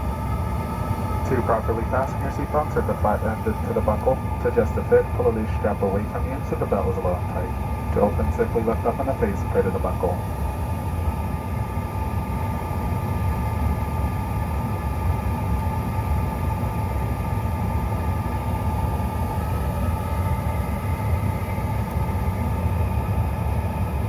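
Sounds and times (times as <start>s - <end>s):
jet cabin rumble and whine: 0.0s - 24.0s.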